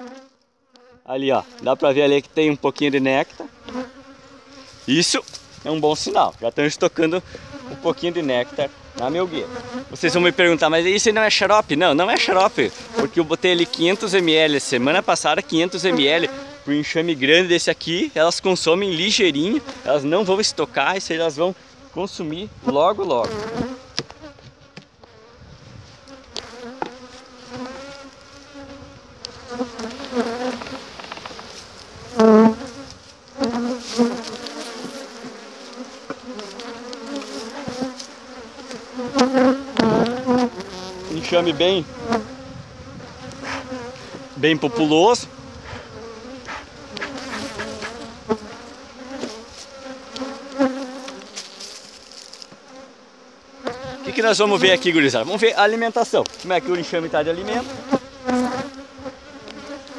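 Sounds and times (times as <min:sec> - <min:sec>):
honey bees buzzing: 0:00.0 - 0:59.9.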